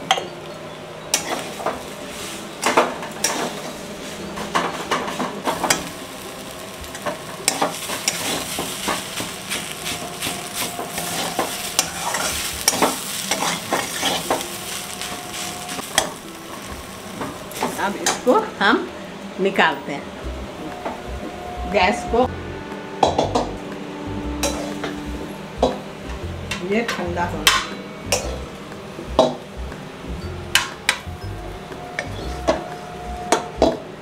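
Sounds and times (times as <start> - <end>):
light sizzle: 0.0 - 34.0.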